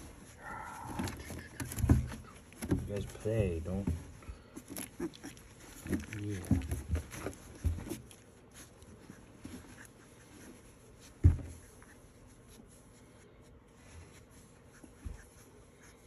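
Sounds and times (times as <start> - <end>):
rustling of towels and fur: 0.0 - 16.0.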